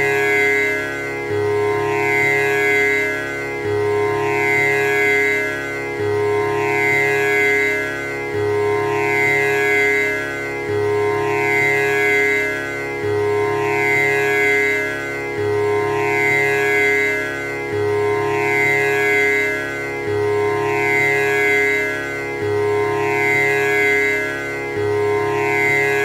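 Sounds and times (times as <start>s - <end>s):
tanpura drone: 0.0s - 26.0s.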